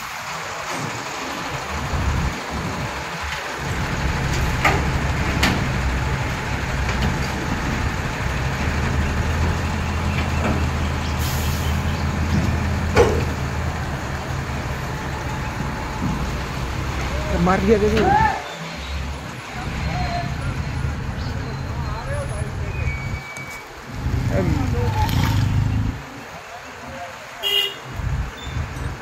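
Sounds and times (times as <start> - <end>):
heavy truck engine running: 0.0 - 26.3.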